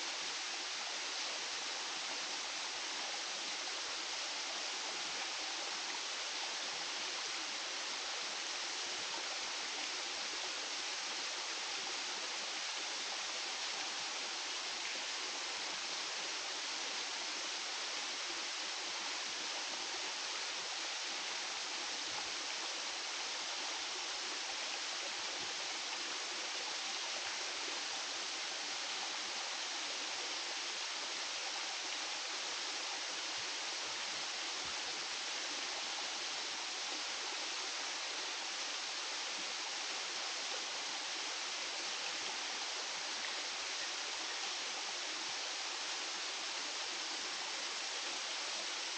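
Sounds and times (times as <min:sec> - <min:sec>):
water rushing down cascades: 0:00.0 - 0:48.9.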